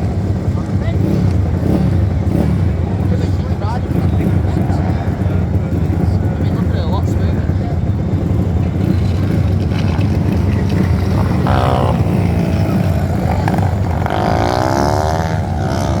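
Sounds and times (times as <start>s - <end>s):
motorbike passing by: 0.0s - 16.0s
motorbikes racing: 0.0s - 16.0s.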